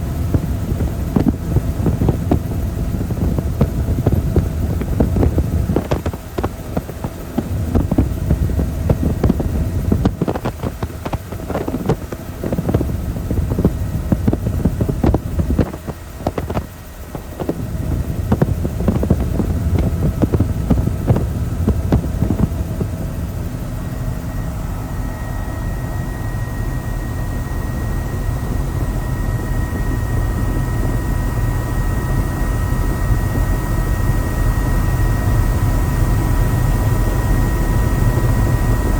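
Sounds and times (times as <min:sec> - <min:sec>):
faint steady whine: 0:00.0 - 0:38.9
helicopter rumble: 0:00.0 - 0:38.9
wind buffeting microphone: 0:00.0 - 0:38.9.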